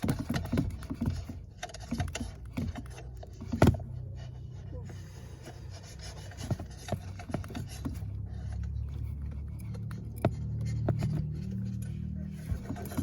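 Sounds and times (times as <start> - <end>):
car engine droning: 1.6 - 13.0.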